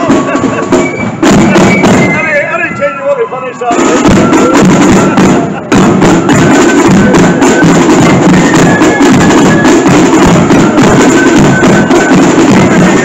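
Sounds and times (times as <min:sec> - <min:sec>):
bass drum: 0:00.0 - 0:02.2, 0:03.8 - 0:13.0
flute band playing: 0:00.0 - 0:13.0
snare drums: 0:00.0 - 0:13.0.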